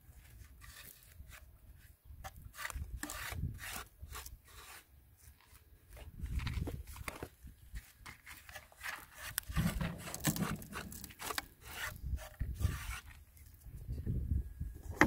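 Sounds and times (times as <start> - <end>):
hand scraping loose sand: 0.0 - 13.8.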